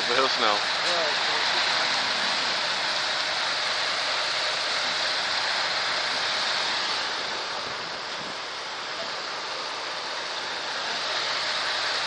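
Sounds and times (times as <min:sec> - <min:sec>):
water jets spraying: 0:00.0 - 0:12.0.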